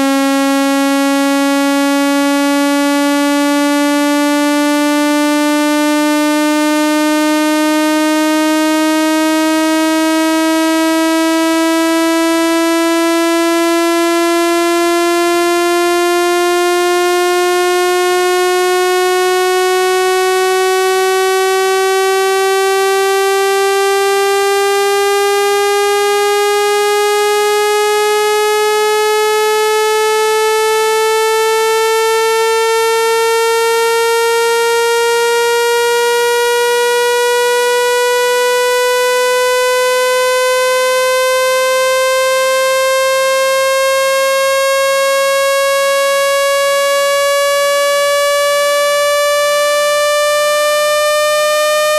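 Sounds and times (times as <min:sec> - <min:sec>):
buzzy rising electronic tone: 0:00.0 - 0:51.9.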